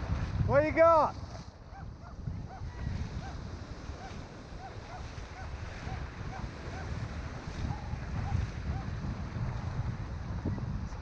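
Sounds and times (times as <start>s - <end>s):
surf washing through shallows: 0.0s - 11.0s
wind buffeting microphone: 0.0s - 11.0s.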